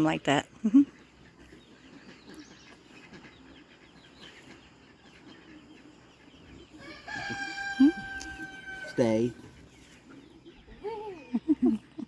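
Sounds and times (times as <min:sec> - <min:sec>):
distant chickens clucking: 0:00.0 - 0:12.0.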